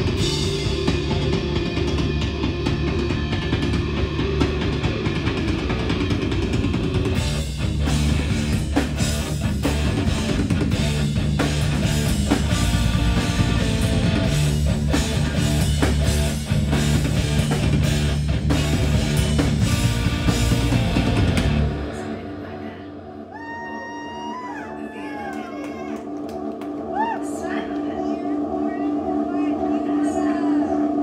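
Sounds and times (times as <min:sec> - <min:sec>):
bass guitar: 0:00.0 - 0:31.0
electric guitar: 0:00.0 - 0:31.0.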